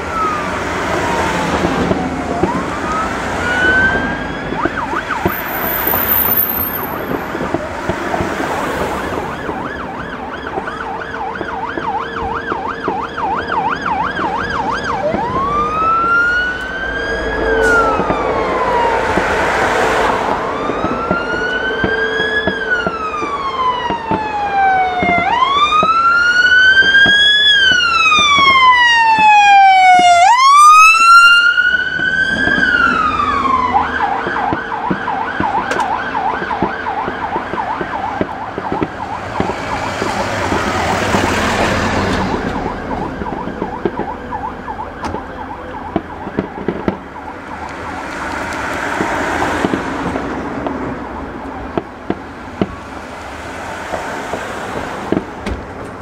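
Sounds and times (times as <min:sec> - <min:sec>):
electronic siren: 0:00.0 - 0:07.8, 0:08.8 - 0:52.8.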